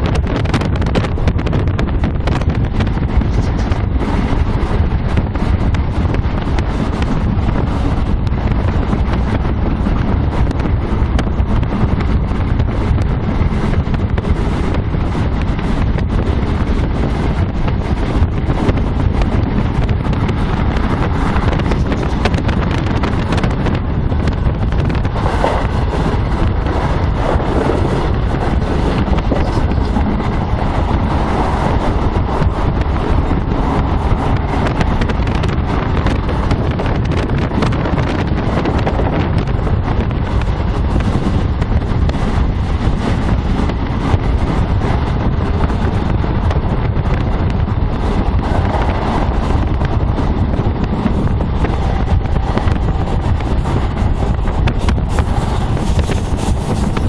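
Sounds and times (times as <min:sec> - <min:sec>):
train wheels rumbling on rails: 0:00.0 - 0:57.0
wind buffeting microphone: 0:00.0 - 0:57.0.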